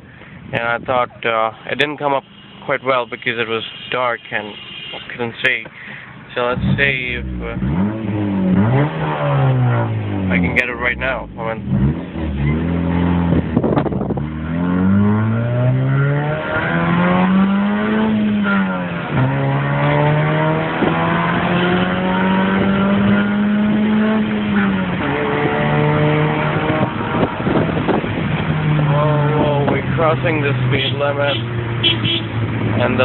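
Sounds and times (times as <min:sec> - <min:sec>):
car engine accelerating: 0:06.2 - 0:33.0.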